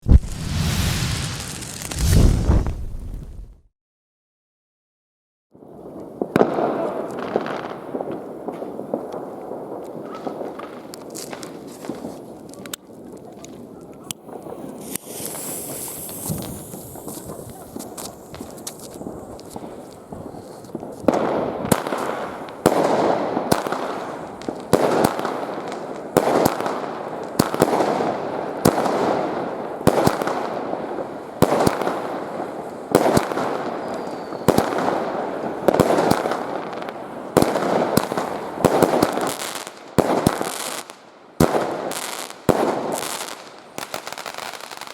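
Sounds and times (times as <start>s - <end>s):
fireworks bangs with hissing tails: 0.0s - 3.5s, 5.6s - 44.9s.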